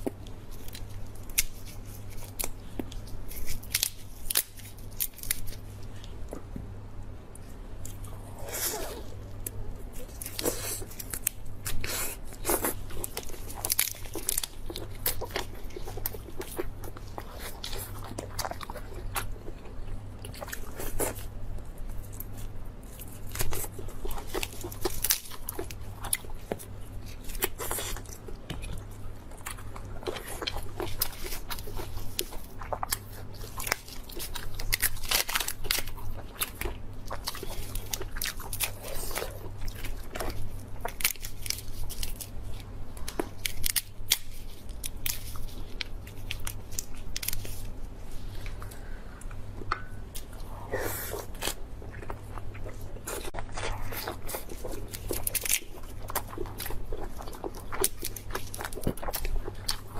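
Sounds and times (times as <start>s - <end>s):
person chewing with crunches: 0.0s - 6.6s, 7.4s - 59.9s.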